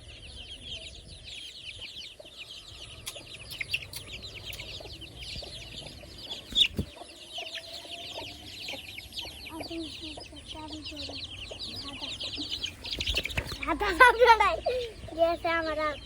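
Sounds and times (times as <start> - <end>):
chicks cheeping: 0.0 - 16.0.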